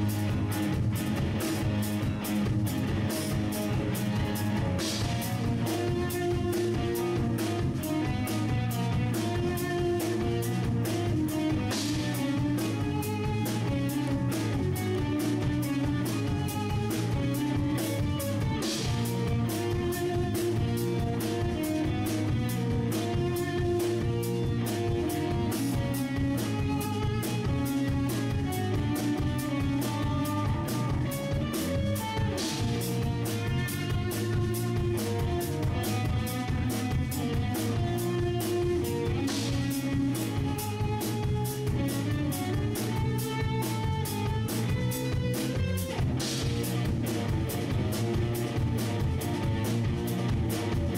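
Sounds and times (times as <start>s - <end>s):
progressive rock instrumental: 0.0s - 50.9s.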